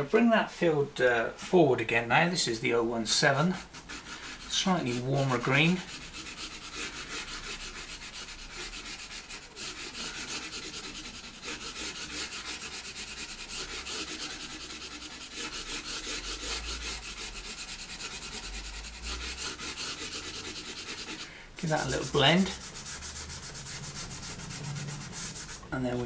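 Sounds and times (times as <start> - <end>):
pastel pencil scratching paper: 3.2 - 26.0.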